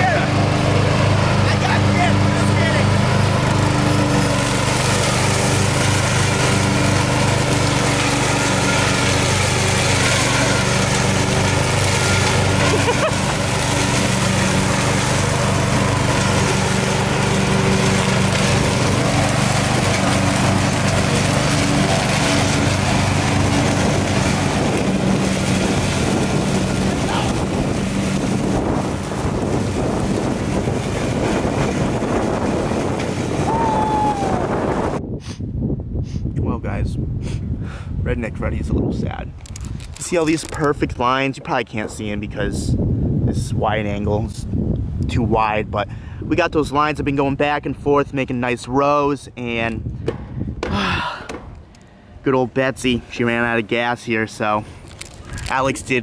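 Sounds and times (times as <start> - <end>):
riding lawn mower engine running: 0.0 - 35.0, 39.1 - 45.1, 47.6 - 56.0.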